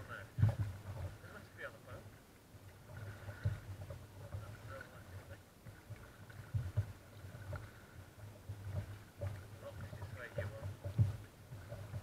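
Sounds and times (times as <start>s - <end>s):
water slapping against kayak hull: 0.0s - 12.0s.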